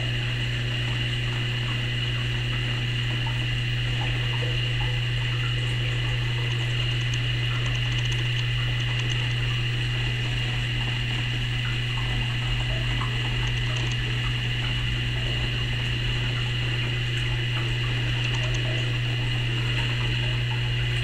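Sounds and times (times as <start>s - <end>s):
aquarium pumps humming: 0.0s - 21.0s.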